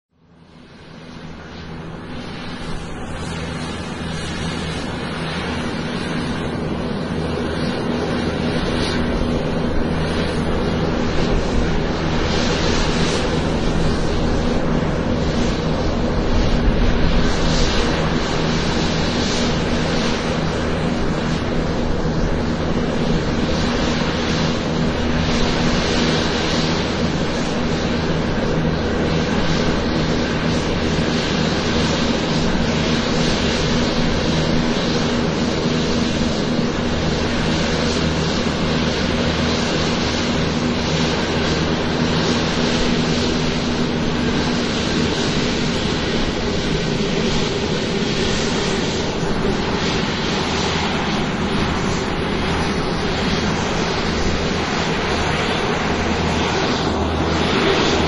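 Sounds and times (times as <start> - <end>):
airplane engine rumble: 0.1 - 58.0
constant low hum: 0.2 - 58.0.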